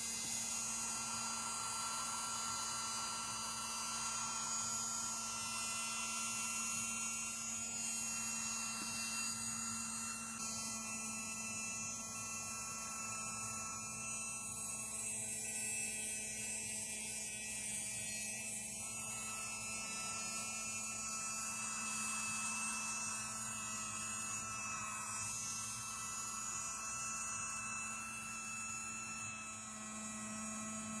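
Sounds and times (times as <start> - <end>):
mini vacuum cleaner motor running: 0.0 - 31.0.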